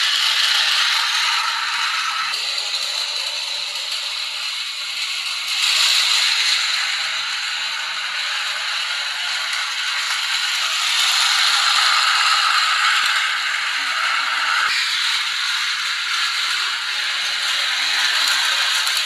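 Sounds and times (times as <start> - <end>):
model train rattling on track: 0.0 - 19.0.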